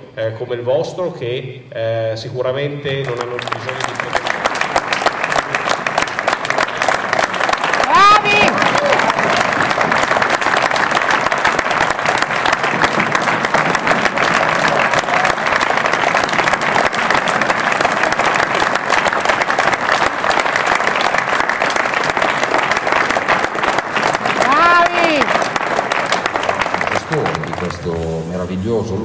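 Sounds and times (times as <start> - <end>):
audience applauding: 2.9 - 28.6.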